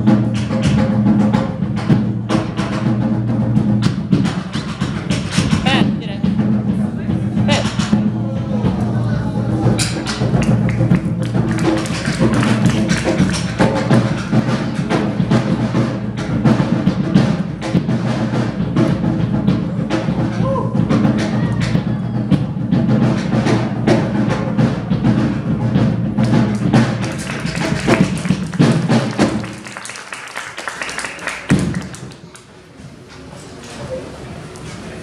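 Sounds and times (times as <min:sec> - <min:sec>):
music with drums and percussion: 0:00.0 - 0:32.0.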